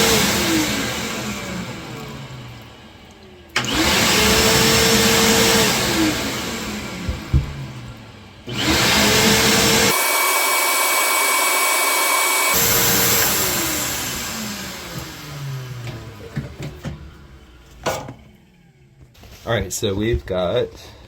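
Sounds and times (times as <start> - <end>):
shop vacuum motor whining: 0.0 - 2.9, 3.5 - 19.1.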